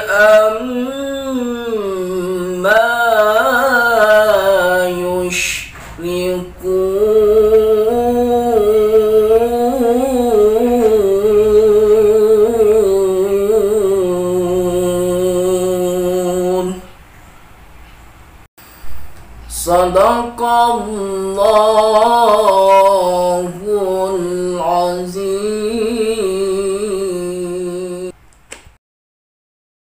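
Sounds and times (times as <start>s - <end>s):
man chanting melodically: 0.0s - 17.0s, 18.8s - 28.1s.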